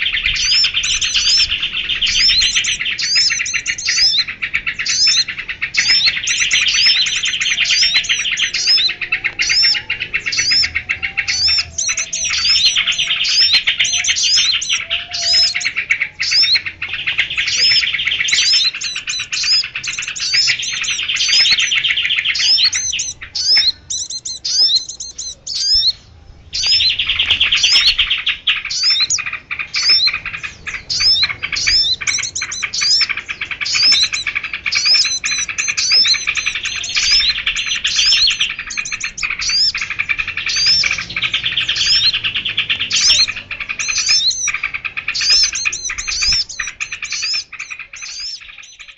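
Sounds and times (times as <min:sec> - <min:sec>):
small birds chirping and trilling: 0:00.0 - 0:48.9.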